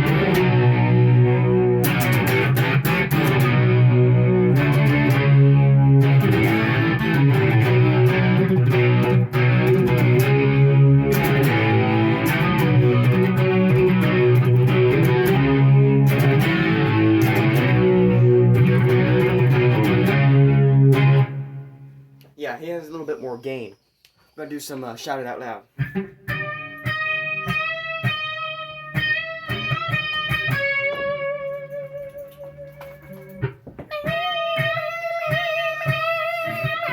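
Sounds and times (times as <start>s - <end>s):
overdriven electric guitar riff: 0.0s - 22.3s, 25.7s - 36.9s.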